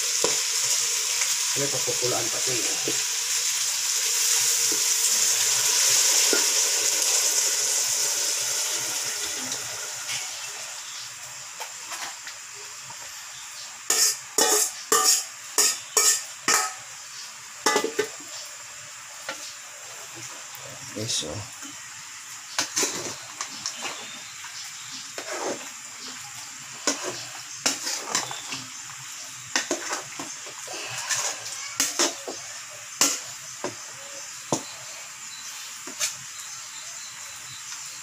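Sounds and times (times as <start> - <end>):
food sizzling in a pot: 0.0 - 38.0.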